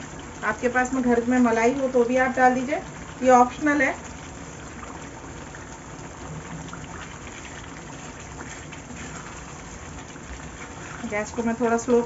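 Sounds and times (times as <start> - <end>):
thick gravy bubbling: 0.0 - 12.0.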